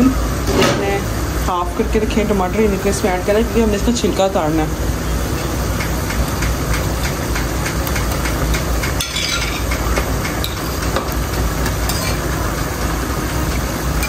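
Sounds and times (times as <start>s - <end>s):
meat sizzling in oil: 0.1s - 14.0s.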